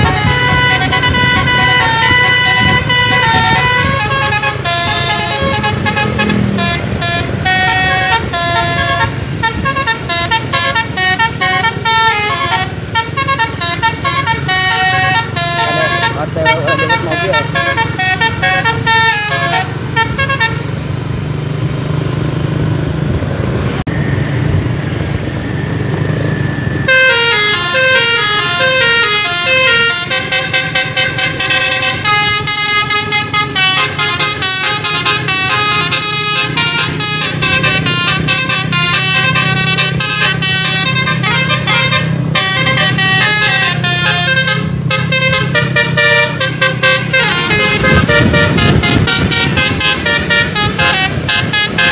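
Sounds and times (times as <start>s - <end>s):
musical air horn playing tunes: 0.0s - 20.7s, 26.9s - 51.9s
bus engine running: 0.0s - 51.9s.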